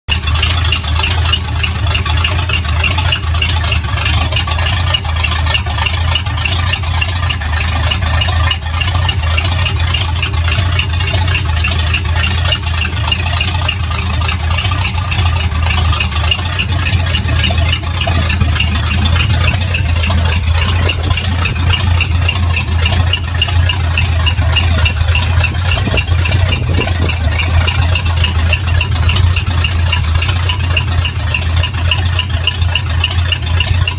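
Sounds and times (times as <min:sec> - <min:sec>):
truck engine idling: 0:00.0 - 0:33.9
fast even ticking: 0:00.1 - 0:33.9.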